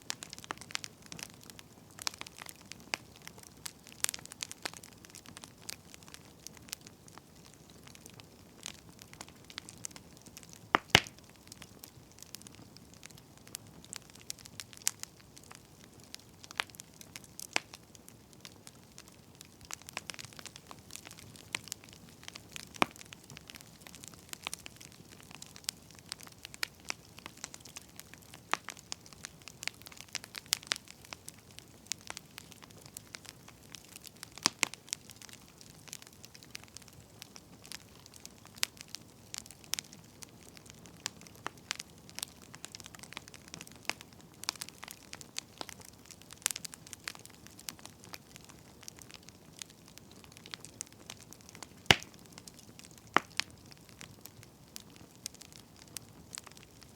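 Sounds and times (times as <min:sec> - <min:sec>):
log fire crackling: 0:00.0 - 0:56.9.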